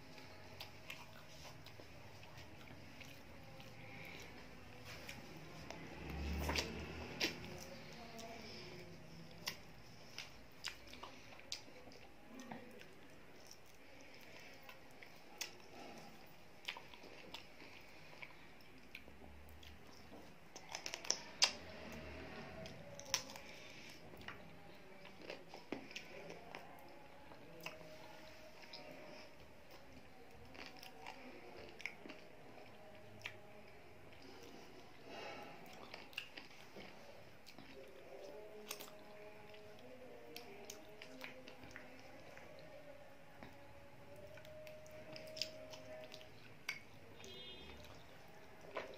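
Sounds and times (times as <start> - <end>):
chewing with wet mouth sounds: 0.0 - 48.9.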